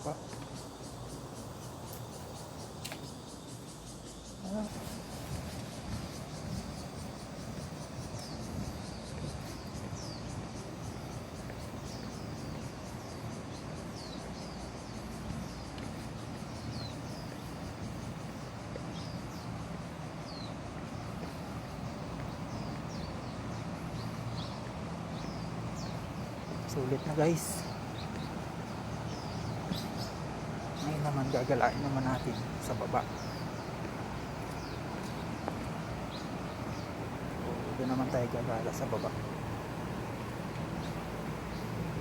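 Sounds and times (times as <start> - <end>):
birds chirping: 0.0 - 42.0
outdoor background hum: 0.0 - 42.0.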